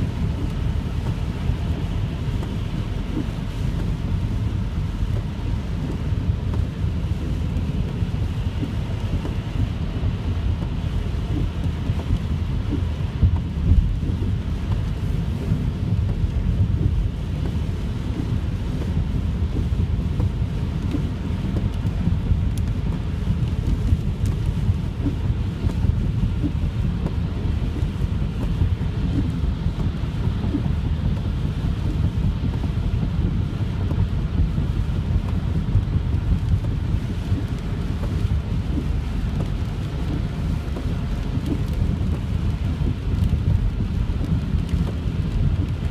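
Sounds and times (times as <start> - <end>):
heavy rain hissing on car: 0.0 - 45.9
tyre and wind rumble: 0.0 - 45.9.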